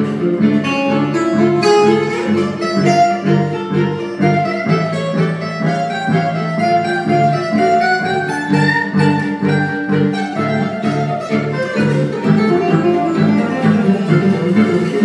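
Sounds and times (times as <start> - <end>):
guitar: 0.0 - 15.0
low bass notes: 0.0 - 15.0
sliding fiddle melody: 0.0 - 15.0.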